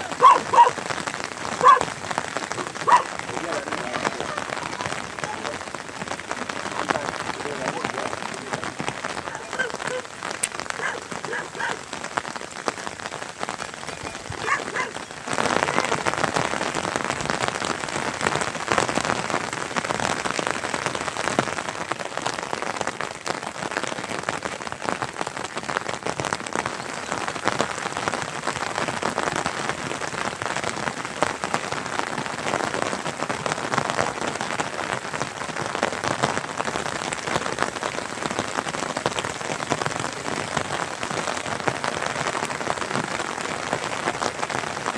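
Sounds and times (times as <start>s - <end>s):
rain pattering on surfaces: 0.0s - 44.9s.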